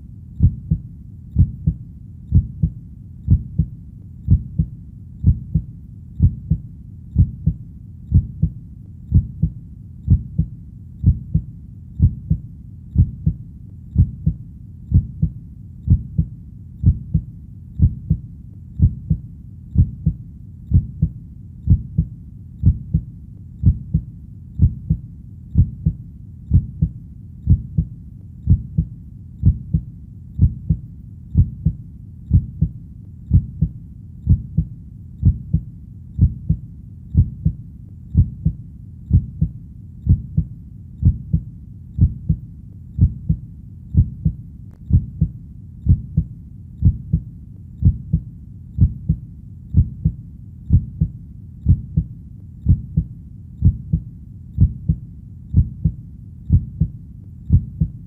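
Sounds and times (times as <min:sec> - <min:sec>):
faint low hum: 0:00.0 - 0:58.0
heartbeat lub-dub: 0:00.0 - 0:58.0.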